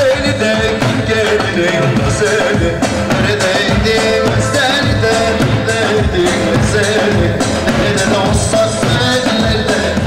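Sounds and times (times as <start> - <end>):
lively dance music: 0.0 - 10.0
steady drum beat: 0.0 - 10.0.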